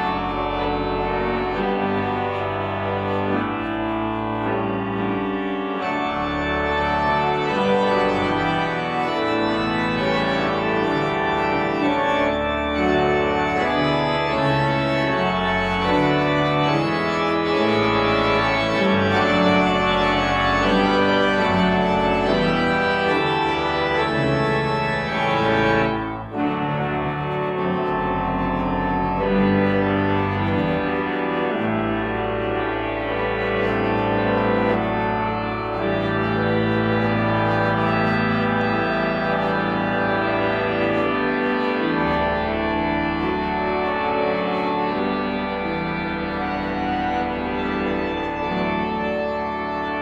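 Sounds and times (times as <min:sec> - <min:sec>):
organ playing sustained chords: 0:00.0 - 0:50.0.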